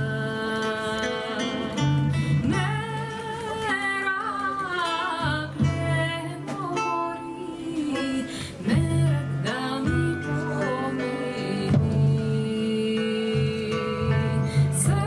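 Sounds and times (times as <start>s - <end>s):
hand drum: 0.0s - 15.0s
strummed acoustic guitar: 0.0s - 15.0s
woman singing: 0.0s - 15.0s.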